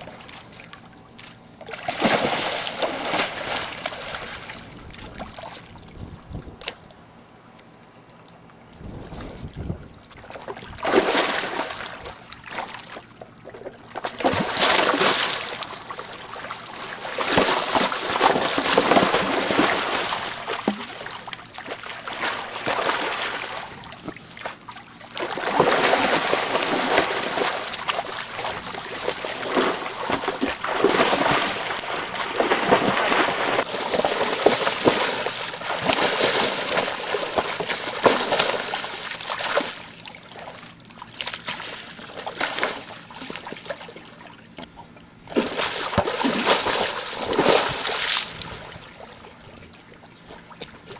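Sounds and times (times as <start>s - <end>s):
water splashing in a metal tank: 1.7s - 5.7s, 9.5s - 44.4s, 45.3s - 49.2s.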